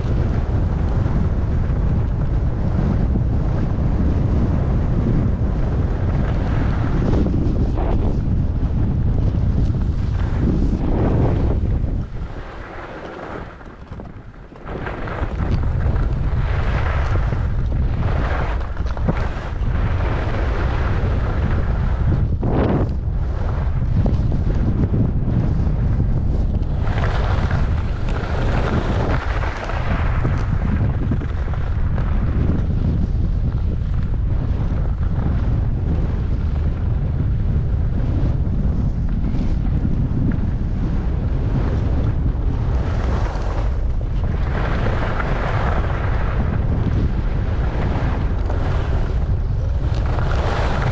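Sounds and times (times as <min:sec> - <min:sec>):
skis scraping over snow: 0:00.0 - 0:50.9
wind buffeting microphone: 0:00.0 - 0:50.9.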